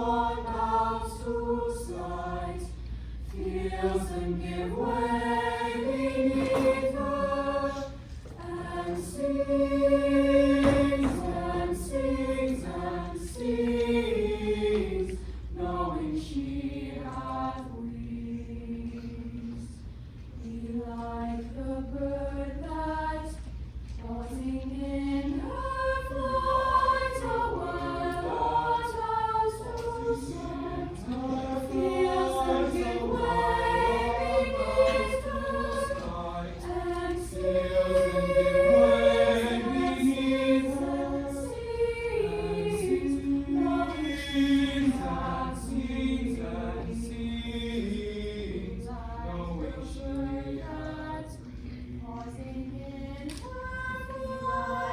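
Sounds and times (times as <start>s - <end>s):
choir singing in harmony: 0.0s - 54.9s
steady low hum: 0.0s - 54.9s.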